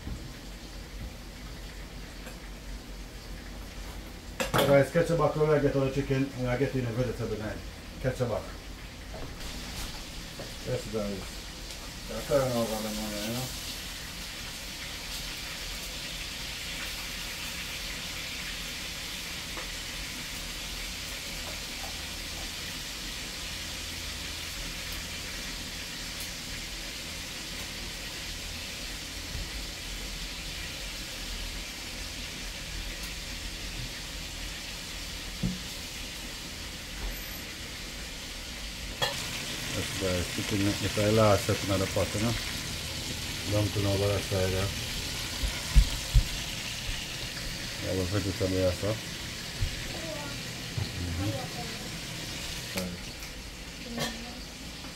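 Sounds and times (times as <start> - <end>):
chicken sizzling in hot oil: 0.0 - 54.9.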